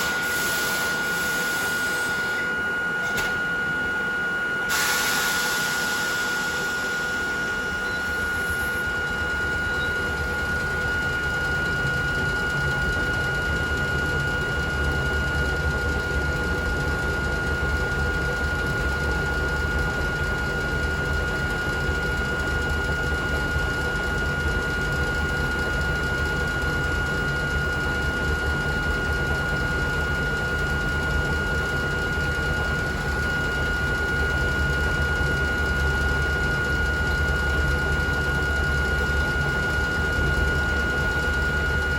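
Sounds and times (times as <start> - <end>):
railcar machinery high whine: 0.0 - 41.9
low hum and rumble: 4.7 - 41.9.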